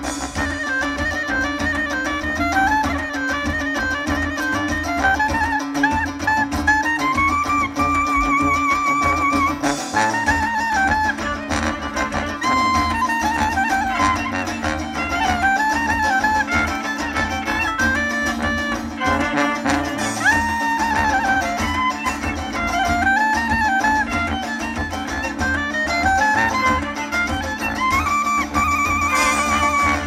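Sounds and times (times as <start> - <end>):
brass bass: 0.0 - 30.0
drums beat: 0.0 - 30.0
fiddle melody: 0.0 - 30.0.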